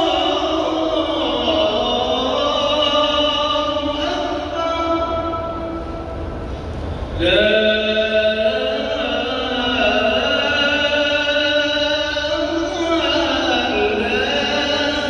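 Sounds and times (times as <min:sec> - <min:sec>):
man chanting: 0:00.0 - 0:05.8, 0:07.2 - 0:15.0.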